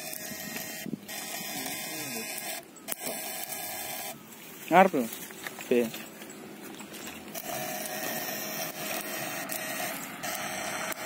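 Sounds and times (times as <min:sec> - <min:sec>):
electrofishing rig buzzing: 0:00.0 - 0:11.0.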